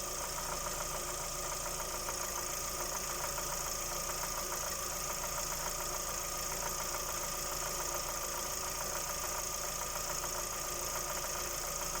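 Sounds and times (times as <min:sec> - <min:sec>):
car engine with ticking knock: 0:00.0 - 0:12.0.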